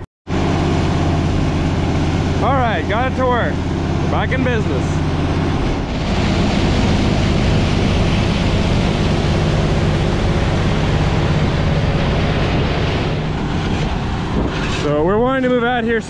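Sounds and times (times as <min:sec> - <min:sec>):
low machinery drone: 0:00.0 - 0:16.0.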